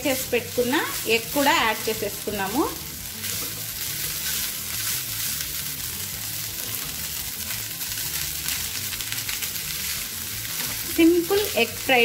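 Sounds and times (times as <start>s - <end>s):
rice sizzling in a frying pan: 0.0s - 12.0s.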